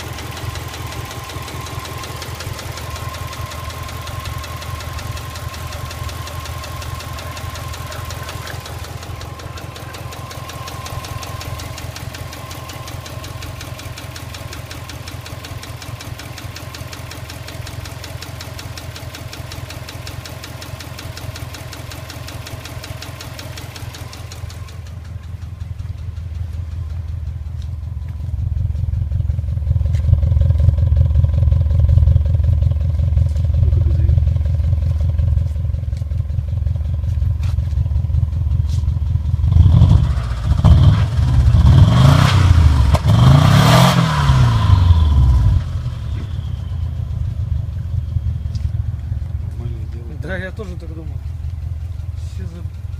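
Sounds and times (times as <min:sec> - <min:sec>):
knocking car engine: 0:00.0 - 0:52.9.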